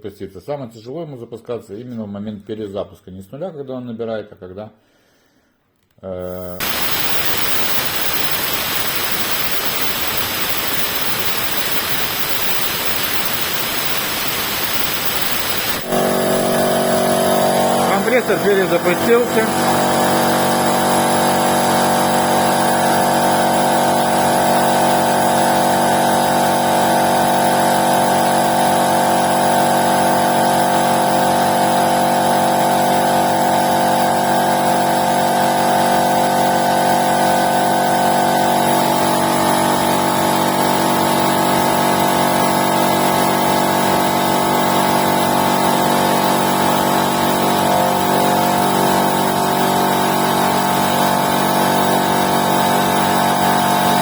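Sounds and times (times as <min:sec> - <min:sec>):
air compressor running: 0:06.3 - 0:54.0.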